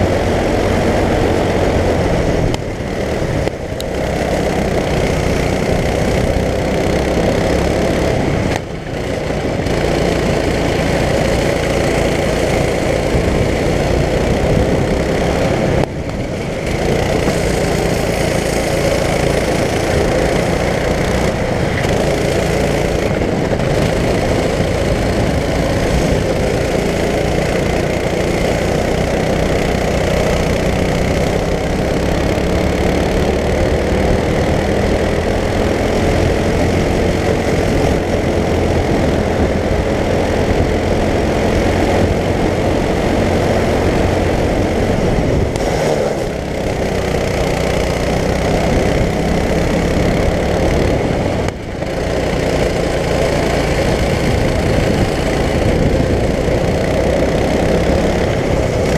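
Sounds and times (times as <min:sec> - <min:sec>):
go-kart engine running hard: 0:00.0 - 0:58.9.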